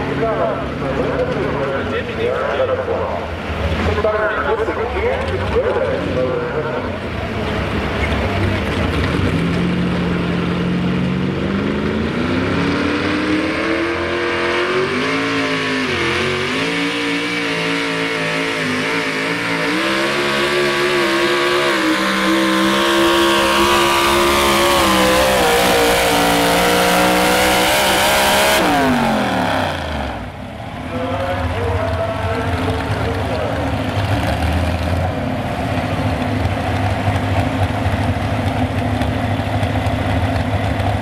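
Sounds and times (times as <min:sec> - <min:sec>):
supercharged truck engine revving: 0:00.0 - 0:41.0.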